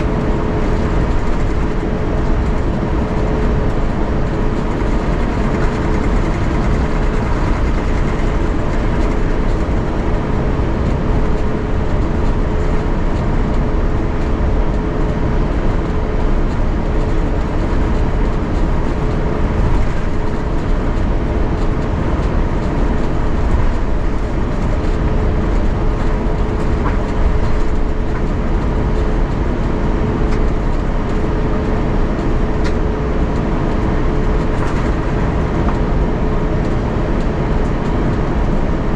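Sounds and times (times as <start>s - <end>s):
aircraft cabin noise: 0.0s - 38.9s
low rumble: 0.0s - 38.9s
mid-pitched hum: 0.0s - 38.9s.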